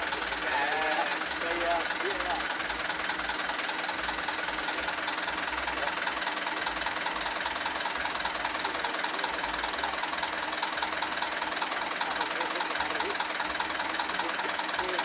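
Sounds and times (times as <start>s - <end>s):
diesel truck engine idling: 0.0s - 15.0s
faint regular ticking: 0.0s - 15.0s.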